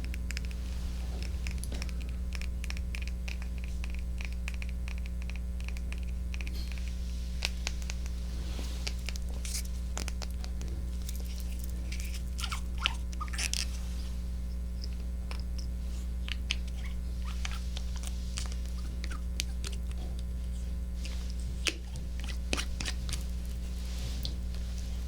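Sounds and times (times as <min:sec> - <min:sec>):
scratchy rustles: 0:00.0 - 0:25.0
steady low hum: 0:00.0 - 0:25.0.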